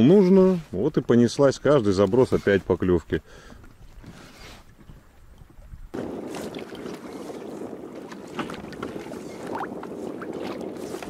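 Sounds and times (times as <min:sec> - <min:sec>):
water lapping against boat: 0:00.0 - 0:11.0.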